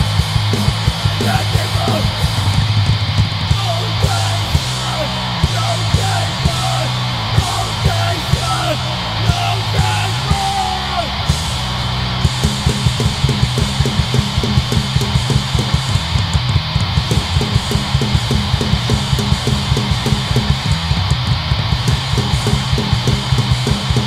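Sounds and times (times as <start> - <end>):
bass guitar: 0.0 - 24.0
distorted electric guitar: 0.0 - 24.0
fast drum beat: 0.0 - 24.0.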